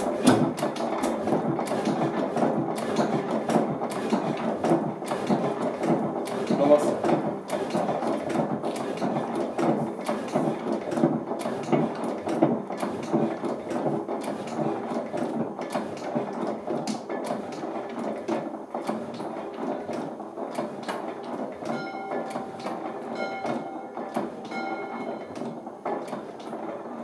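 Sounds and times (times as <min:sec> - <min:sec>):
stationary engine clattering: 0:00.0 - 0:27.0.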